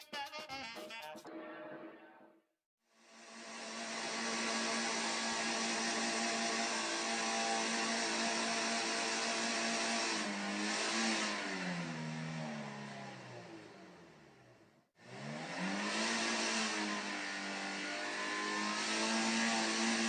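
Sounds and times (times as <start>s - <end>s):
car engine revving: 3.5s - 20.0s.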